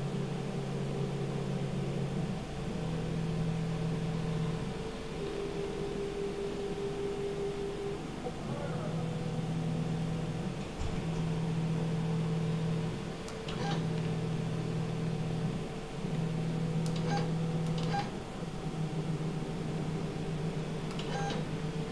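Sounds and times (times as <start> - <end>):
drive motors humming: 0.0 - 21.9.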